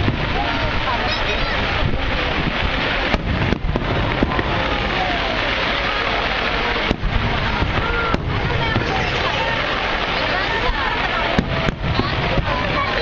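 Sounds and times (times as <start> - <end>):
fireworks crackling: 0.0 - 13.0
fireworks sharp bangs: 0.0 - 13.0.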